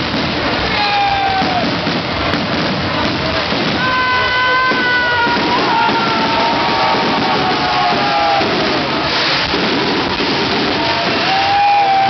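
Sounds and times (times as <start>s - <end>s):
crowd noise: 0.0s - 12.0s
fireworks going off: 0.0s - 12.0s.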